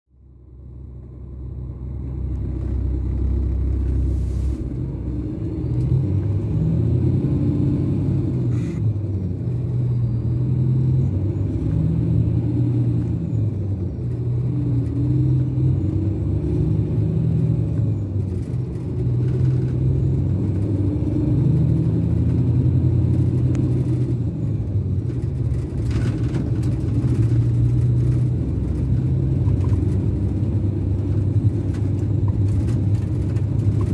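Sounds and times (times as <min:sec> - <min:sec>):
diesel coach engine drone: 0:00.1 - 0:33.9.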